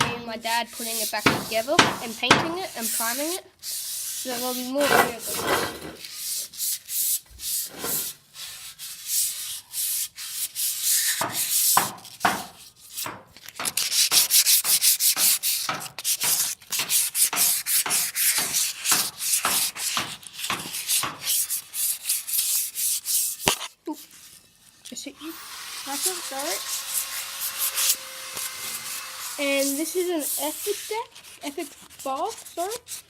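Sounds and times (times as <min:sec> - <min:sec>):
sandpaper scratching on metal: 0:00.0 - 0:33.0.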